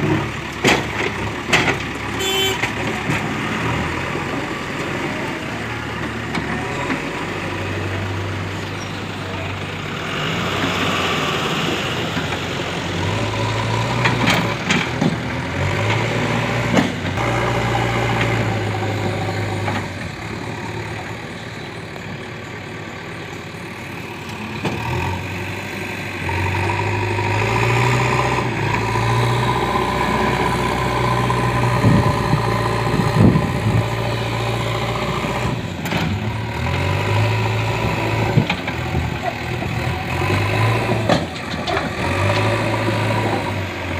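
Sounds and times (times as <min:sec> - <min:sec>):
backhoe diesel engine running: 0:00.0 - 0:43.9.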